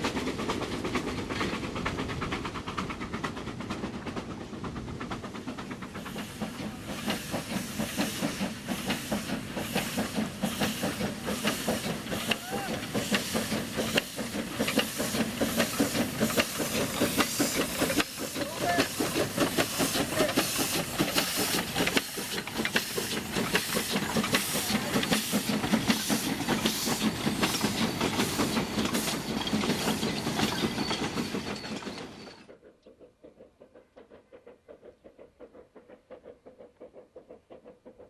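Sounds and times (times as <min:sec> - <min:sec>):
steam locomotive exhaust beats: 0:00.0 - 0:38.0
steam hissing: 0:00.1 - 0:38.0.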